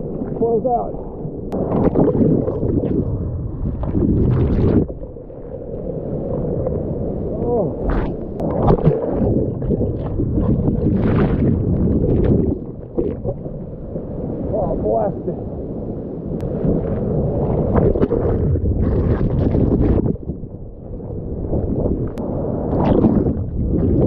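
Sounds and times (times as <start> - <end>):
water sloshing against microphone: 0.0 - 15.2, 16.5 - 24.0
surf whitewater churning and splashing: 0.0 - 20.1.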